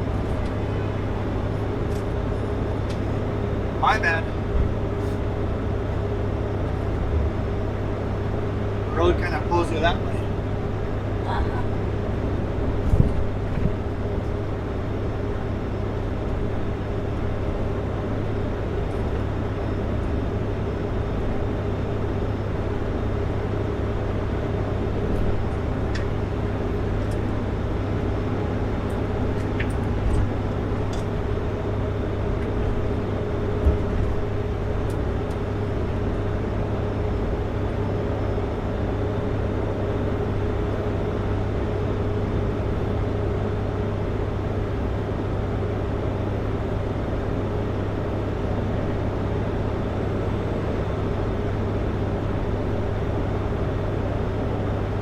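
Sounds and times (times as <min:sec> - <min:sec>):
constant low hum: 0:00.0 - 0:55.0
road noise: 0:00.0 - 0:55.0
truck engine drone: 0:00.0 - 0:55.0.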